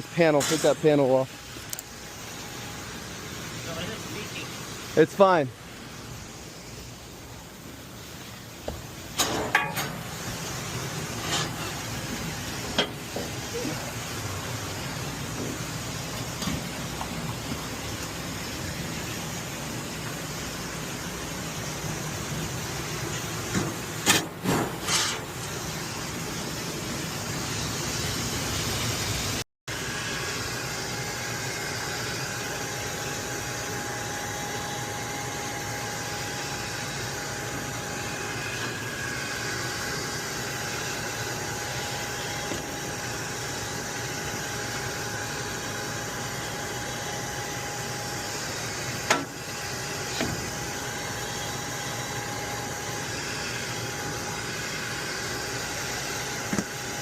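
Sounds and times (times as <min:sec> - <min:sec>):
hvac machinery drone: 0:00.0 - 0:57.0.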